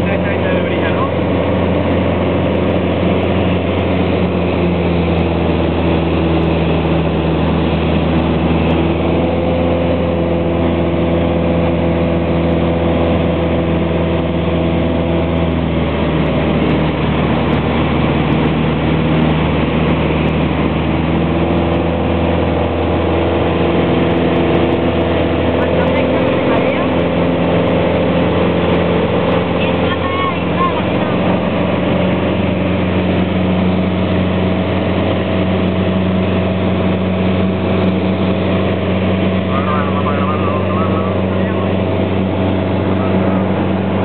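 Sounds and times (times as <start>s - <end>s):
light aircraft engine and propeller: 0.0s - 44.0s.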